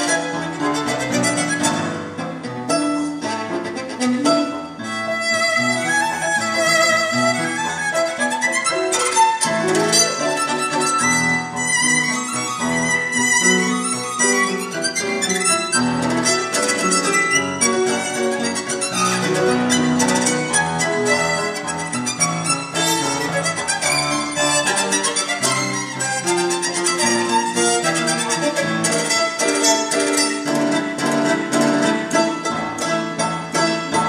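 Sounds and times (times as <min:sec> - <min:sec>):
orchestra accompaniment: 0:00.0 - 0:34.0
solo violin melody: 0:00.0 - 0:34.0.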